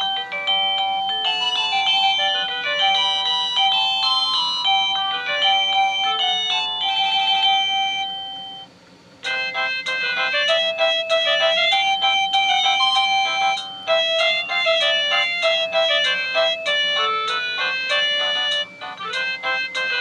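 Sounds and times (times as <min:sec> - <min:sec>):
electronic doorbell melody: 0:00.0 - 0:20.0.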